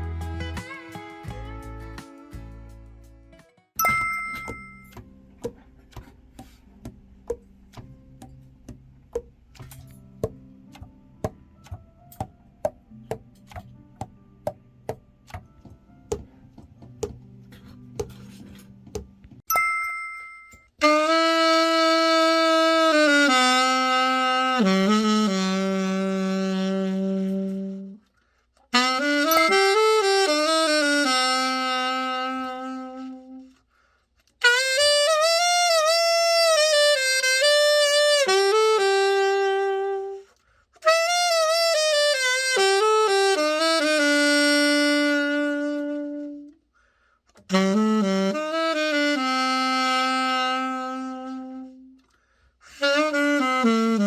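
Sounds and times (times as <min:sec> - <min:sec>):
alto saxophone melody: 0:04.0 - 0:19.0, 0:20.8 - 0:54.0.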